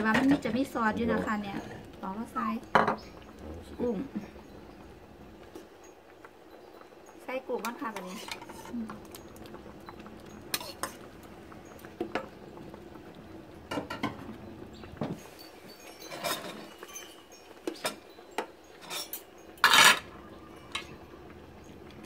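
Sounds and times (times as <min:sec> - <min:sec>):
bowls and ladle clinking on pot: 0:00.0 - 0:21.0.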